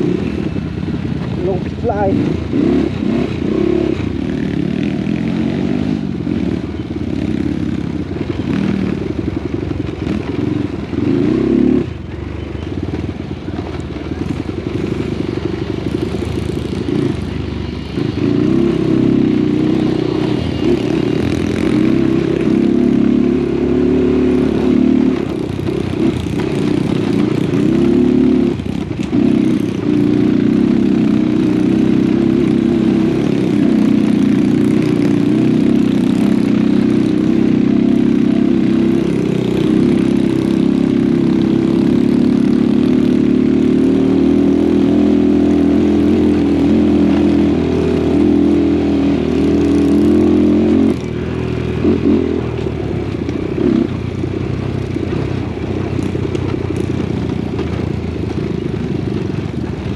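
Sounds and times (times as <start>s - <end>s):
small motorcycle engine revving: 0.0s - 59.9s.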